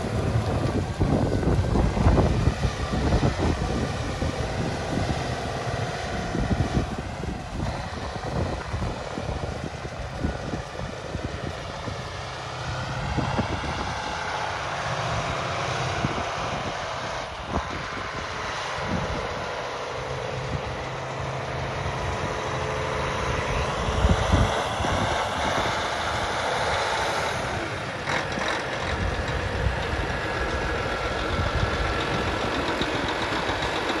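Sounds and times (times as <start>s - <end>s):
diesel tractor engine idling: 0.0s - 34.0s
wind buffeting microphone: 0.0s - 34.0s.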